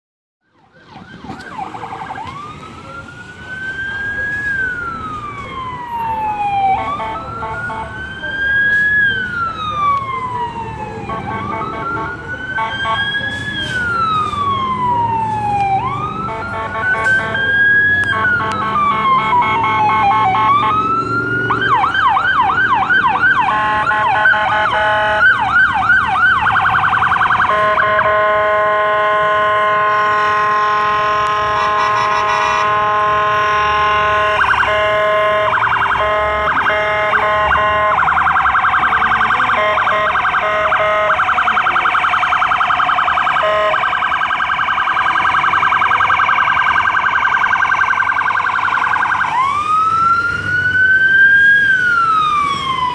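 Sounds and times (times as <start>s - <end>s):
ambulance siren: 0.4s - 52.9s.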